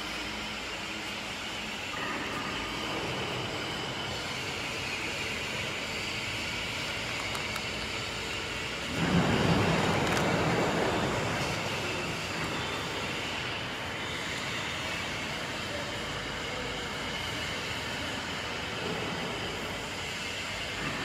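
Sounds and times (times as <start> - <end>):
cutting machine running: 0.0 - 21.0.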